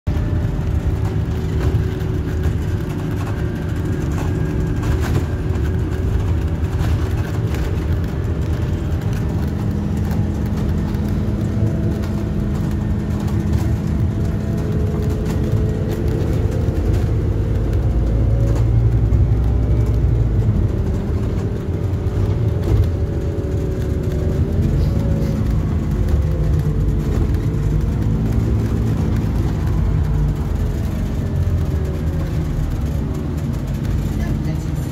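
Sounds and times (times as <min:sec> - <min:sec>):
bus engine drone: 0:00.0 - 0:34.9
road rumble: 0:00.0 - 0:34.9.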